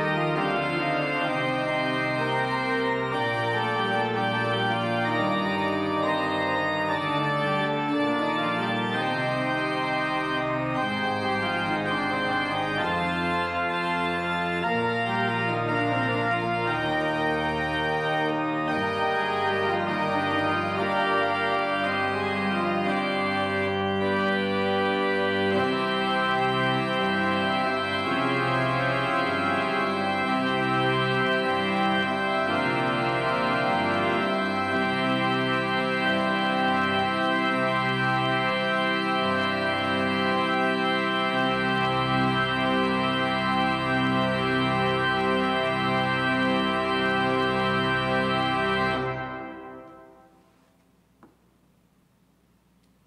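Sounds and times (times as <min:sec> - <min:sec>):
pipe organ playing chords: 0:00.0 - 0:50.6.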